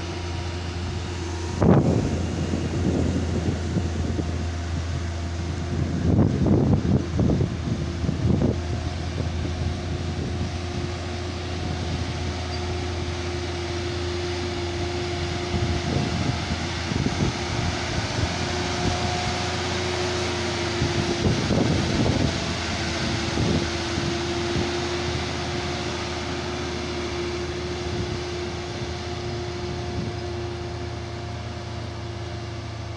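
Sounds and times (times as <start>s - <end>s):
constant whine: 0.0s - 32.9s
vehicle engine and road noise: 0.0s - 32.9s
wind buffeting microphone: 0.0s - 32.9s.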